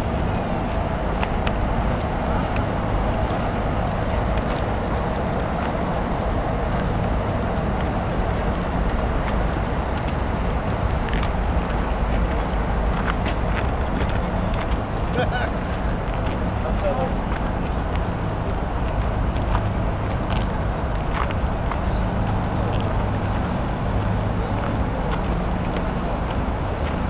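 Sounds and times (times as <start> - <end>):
low city rumble: 0.0 - 27.0.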